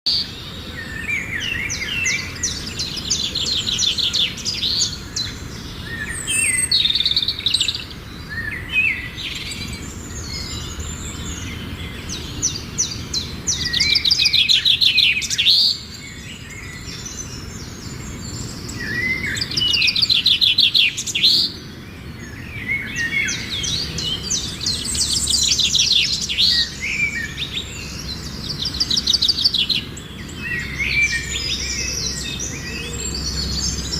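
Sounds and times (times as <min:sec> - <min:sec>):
birds singing trills and chirps: 0:00.1 - 0:33.9.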